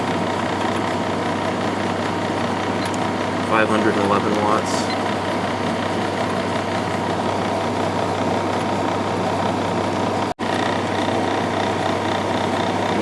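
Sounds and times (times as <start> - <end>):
air conditioner fan whoosh: 0.0 - 13.0
compressor low hum: 0.0 - 13.0.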